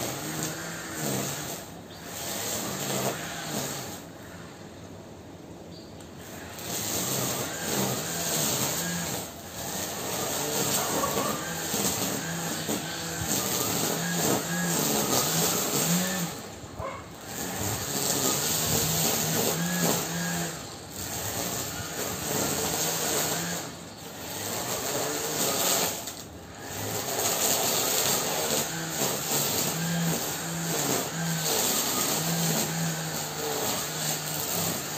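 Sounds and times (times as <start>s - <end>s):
string trimmer cutting grass: 0.0s - 4.6s, 6.1s - 34.9s.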